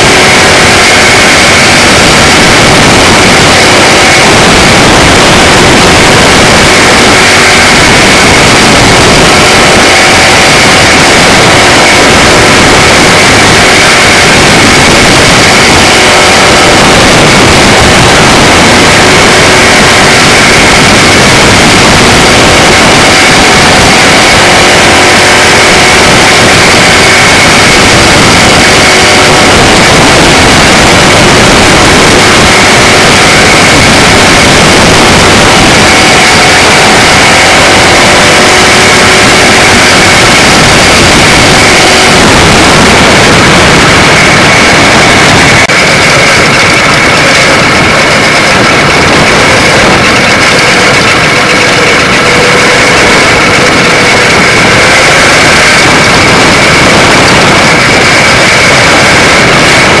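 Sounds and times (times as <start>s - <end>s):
race car engines running: 1.2s - 58.1s.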